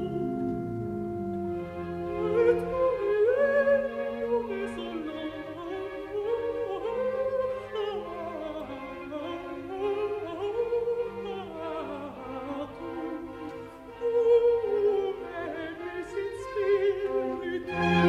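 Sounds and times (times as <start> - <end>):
contralto voice singing: 0.0 - 0.8, 1.6 - 18.0
string orchestra: 0.0 - 18.0.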